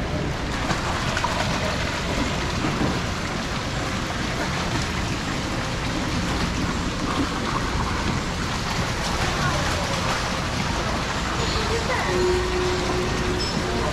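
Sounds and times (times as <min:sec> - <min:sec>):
water rushing and splashing: 0:00.0 - 0:13.9.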